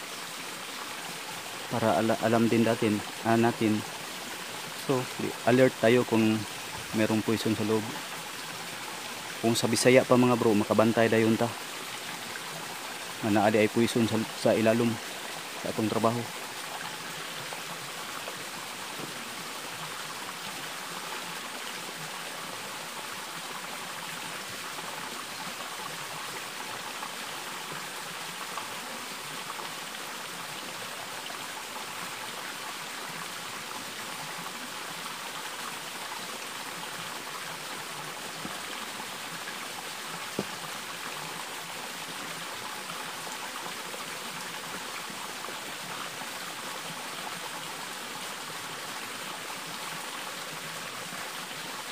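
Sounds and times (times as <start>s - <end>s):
stream water flowing: 0.0s - 51.9s.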